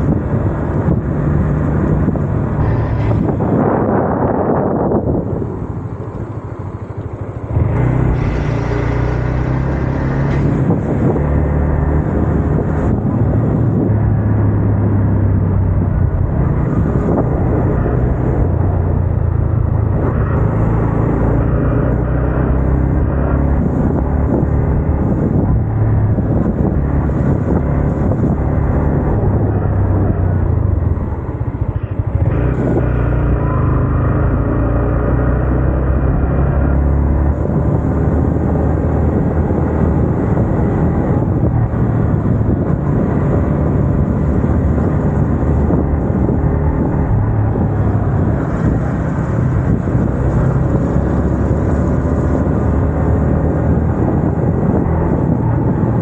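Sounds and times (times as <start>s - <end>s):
motorcycle engine while riding: 0.0s - 56.0s.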